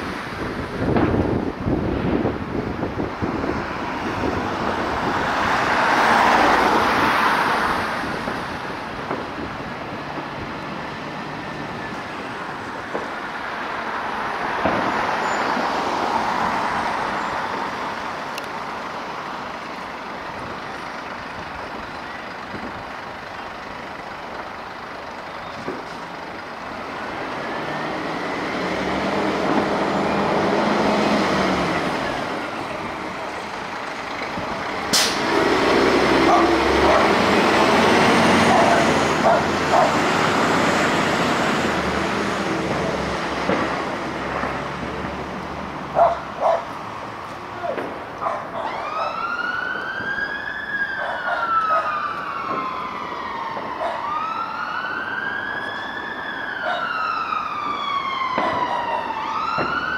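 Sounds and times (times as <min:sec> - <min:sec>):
fire truck engine running: 0:00.0 - 0:05.7, 0:07.5 - 0:15.4, 0:16.1 - 0:59.9
vehicles passing: 0:00.0 - 0:59.9.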